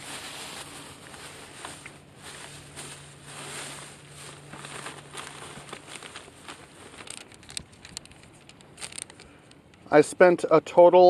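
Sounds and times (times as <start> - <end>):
plastic bag rustling: 0.0 - 9.2.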